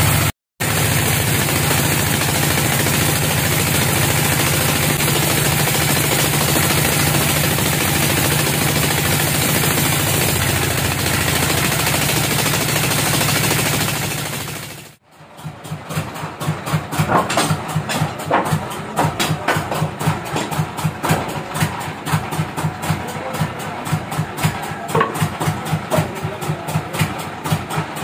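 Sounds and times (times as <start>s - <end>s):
band sawmill cutting wood: 0.0s - 28.0s
rhythmic machinery pulsing: 0.0s - 28.0s.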